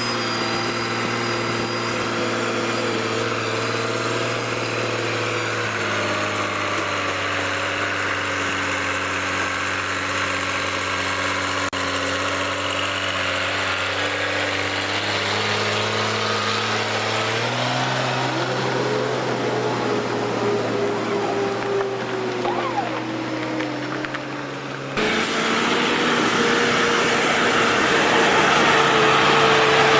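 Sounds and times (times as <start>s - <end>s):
heavy vehicle engine running: 0.0s - 29.9s.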